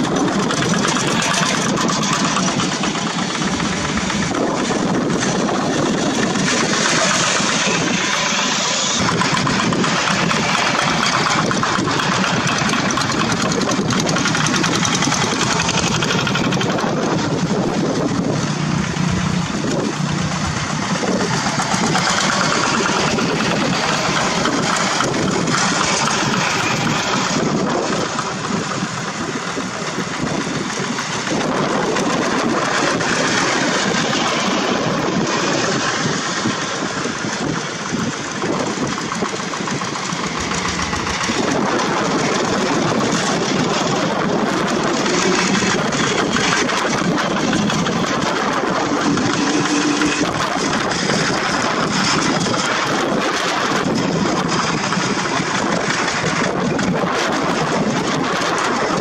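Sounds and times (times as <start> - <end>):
diesel tractor engines running: 0.0 - 59.0.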